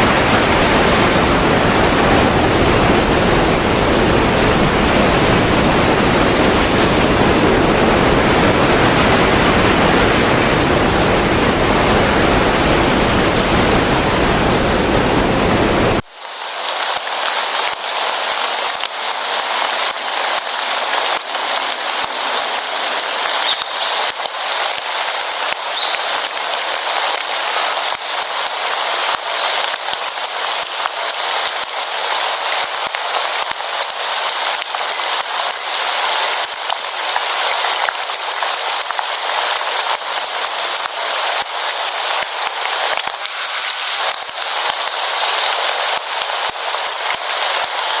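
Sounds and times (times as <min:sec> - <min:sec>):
rain on a hard surface: 0:00.0 - 0:48.0.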